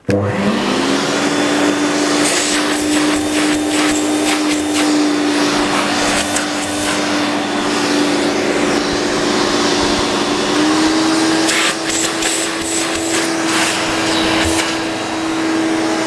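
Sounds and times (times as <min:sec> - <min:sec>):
upright vacuum cleaner running: 0:00.0 - 0:16.0.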